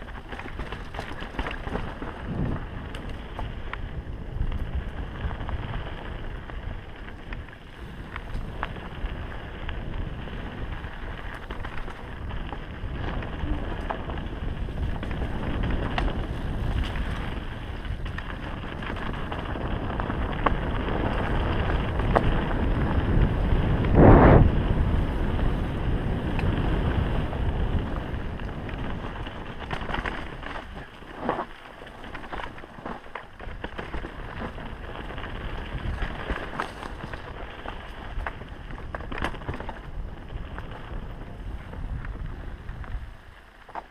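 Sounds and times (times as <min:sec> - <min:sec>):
bike rattling over rocks: 0:00.0 - 0:43.9
tyres running over dirt: 0:00.0 - 0:43.9
wind rumbling on microphone: 0:00.0 - 0:43.9.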